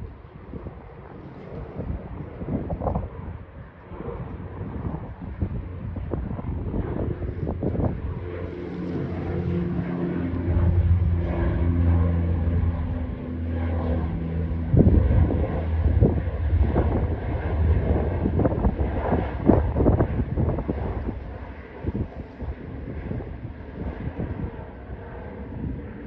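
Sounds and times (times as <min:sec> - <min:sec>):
airplane engines droning: 0:00.0 - 0:26.0
wind buffeting microphone: 0:00.0 - 0:26.0.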